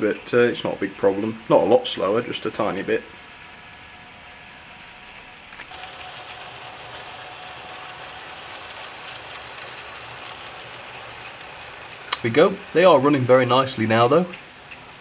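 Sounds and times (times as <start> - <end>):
faint electric motor whine: 0.0 - 15.0
model trains running on track: 0.0 - 15.0.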